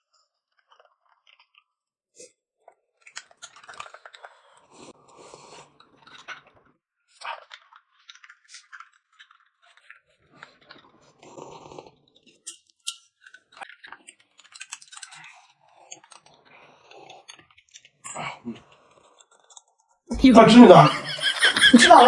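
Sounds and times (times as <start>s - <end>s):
chewing: 0.1s - 20.1s.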